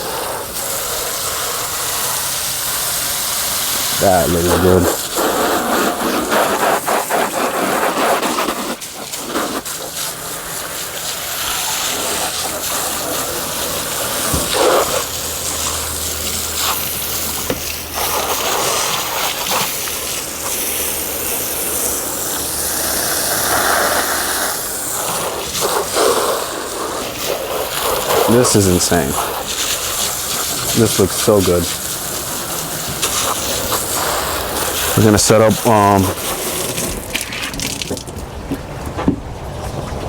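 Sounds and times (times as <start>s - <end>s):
water spraying on boat hull: 0.0s - 39.4s.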